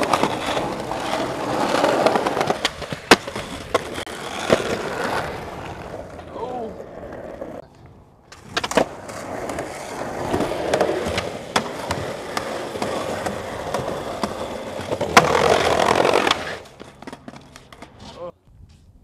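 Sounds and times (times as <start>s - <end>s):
skateboard sliding along ledge: 0.0s - 7.6s, 8.3s - 18.2s
skateboard clacks: 0.0s - 18.0s
skateboard wheels rolling on pavement: 0.0s - 19.0s.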